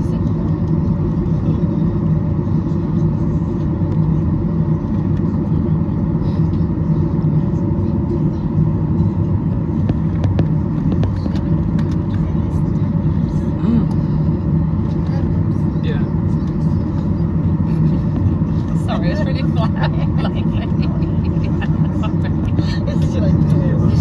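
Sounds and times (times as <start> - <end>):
jet engine cabin rumble: 0.0 - 24.0.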